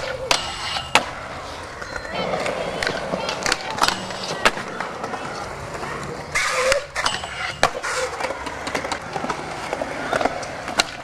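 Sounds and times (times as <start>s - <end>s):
skateboard deck clacks: 0.0s - 11.0s
skateboard scraping: 0.0s - 11.0s
skateboard wheels rolling on concrete: 0.0s - 11.0s.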